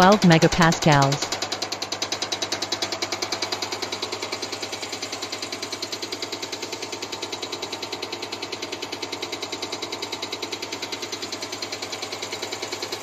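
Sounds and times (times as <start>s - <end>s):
injector clicking rapidly: 0.0s - 13.0s.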